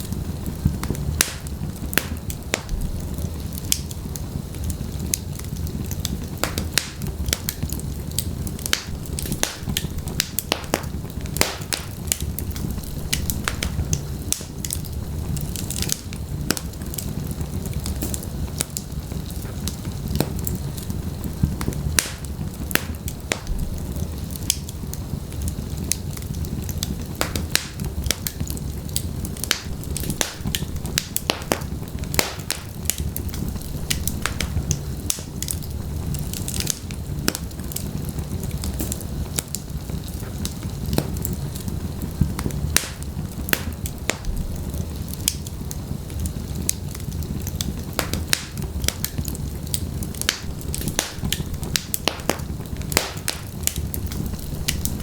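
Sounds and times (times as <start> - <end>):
fire crackles and pops: 0.0 - 55.0
low rumble of flame: 0.0 - 55.0.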